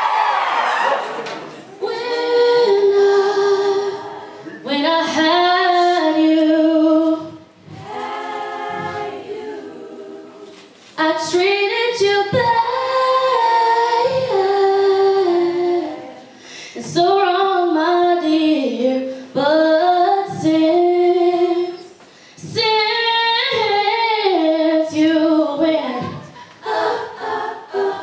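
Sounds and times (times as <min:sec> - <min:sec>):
young women singing together: 0:00.0 - 0:28.0.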